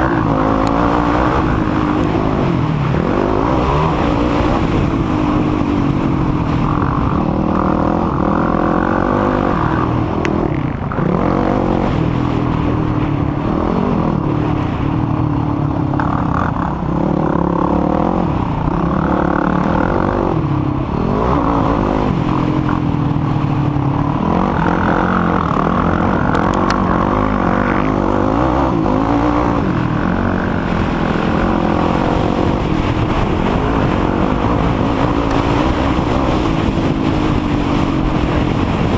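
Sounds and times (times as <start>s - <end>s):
quad engine revving: 0.0s - 14.8s, 15.6s - 38.9s.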